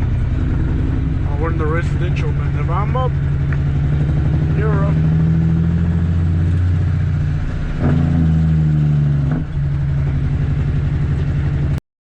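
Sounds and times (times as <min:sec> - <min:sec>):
diesel truck engine under load: 0:00.0 - 0:11.8.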